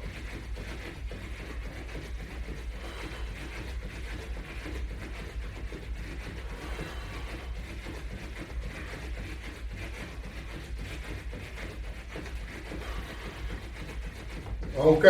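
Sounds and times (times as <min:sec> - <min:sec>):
footfalls of person jogging: 0:00.0 - 0:15.0
steady low hum: 0:00.0 - 0:15.0.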